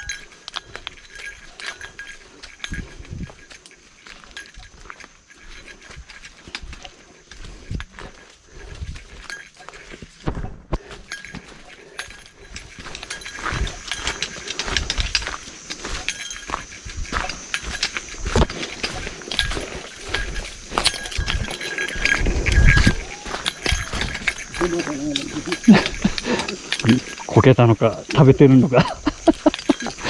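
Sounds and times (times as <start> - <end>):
footsteps on wooden boardwalk: 0.0 - 27.3.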